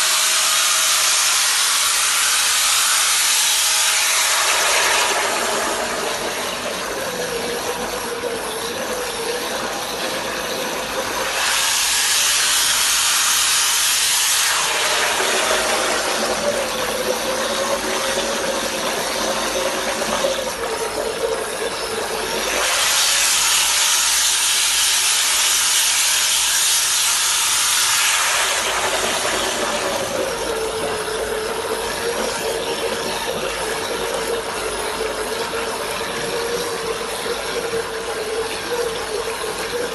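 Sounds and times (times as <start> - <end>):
water churning and splashing: 0.1 - 39.9.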